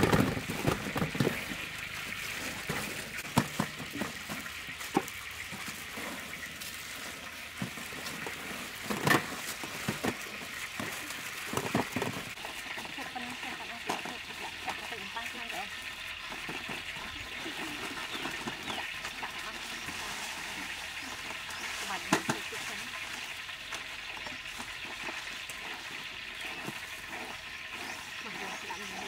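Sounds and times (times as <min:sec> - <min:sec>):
breadcrumbs rustling and crunching: 0:00.0 - 0:29.0.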